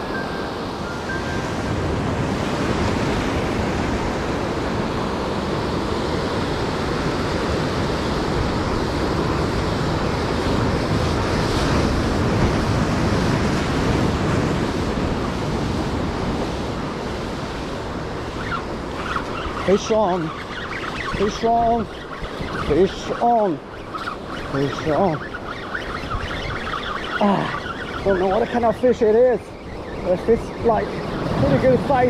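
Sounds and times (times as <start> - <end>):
surf washing over rocks: 0.0 - 32.0.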